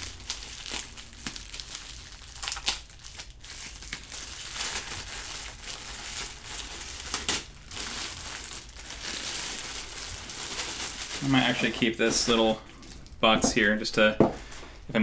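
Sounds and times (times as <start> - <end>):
bubble wrap cracks: 0.0 - 13.3
bubble wrap crinkling: 0.0 - 14.6.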